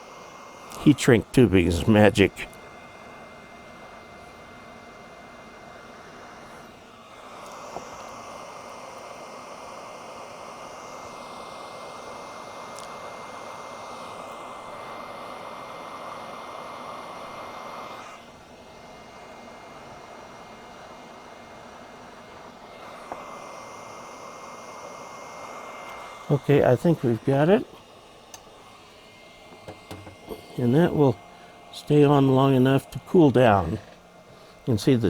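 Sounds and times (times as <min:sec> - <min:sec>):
faint high whine: 0:00.0 - 0:35.0
hot-air gun blowing: 0:00.0 - 0:35.0.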